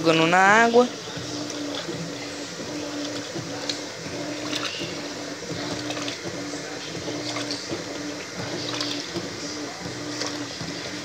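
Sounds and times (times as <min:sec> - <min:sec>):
washing machine motor humming: 0:00.0 - 0:11.0
water sloshing in tub: 0:00.0 - 0:11.0.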